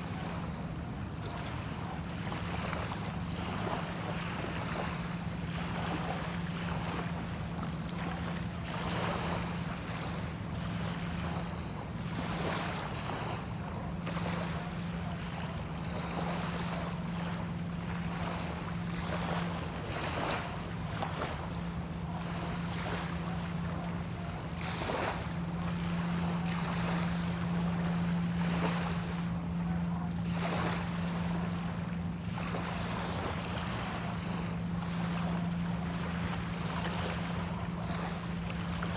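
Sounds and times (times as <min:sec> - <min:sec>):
low engine hum: 0:00.0 - 0:38.9
small waves lapping on shore: 0:00.0 - 0:38.9.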